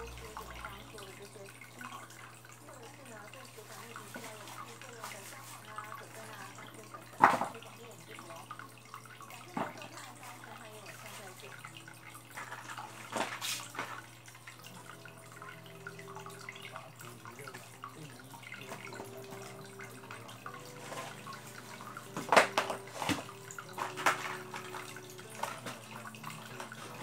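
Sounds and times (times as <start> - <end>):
water splashes: 0.0 - 27.0
water trickling into aquarium: 0.0 - 27.0.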